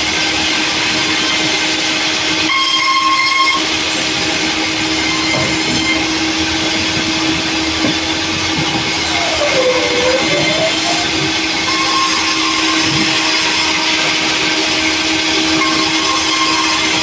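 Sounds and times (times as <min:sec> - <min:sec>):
sawmill saw running: 0:00.0 - 0:17.0
high mechanical whine: 0:02.9 - 0:17.0.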